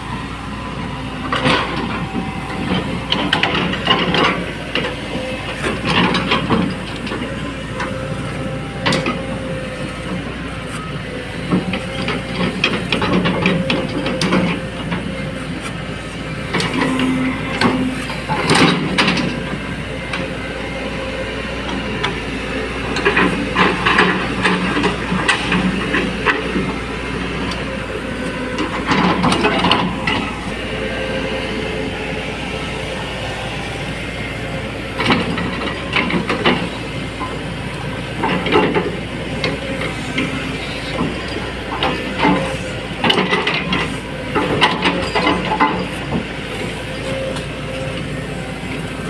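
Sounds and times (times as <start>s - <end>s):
excavator engine running: 0.0s - 49.0s.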